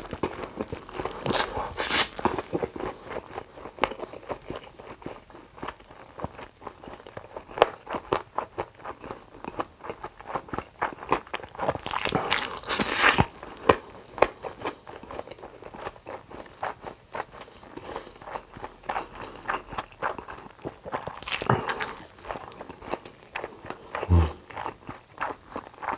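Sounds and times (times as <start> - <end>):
crunching and wet chewing: 0.0 - 25.9.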